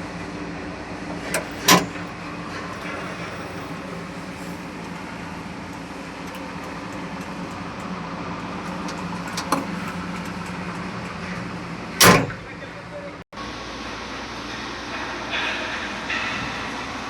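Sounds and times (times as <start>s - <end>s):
loader engine running: 0.0s - 17.0s.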